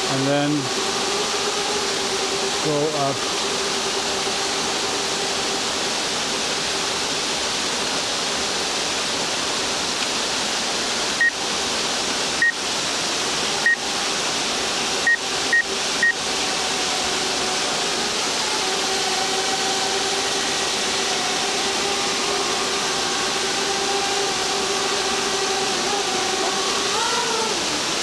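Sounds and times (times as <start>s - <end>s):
drone propellers humming: 0.0s - 28.0s
waterfall rushing: 0.0s - 28.0s.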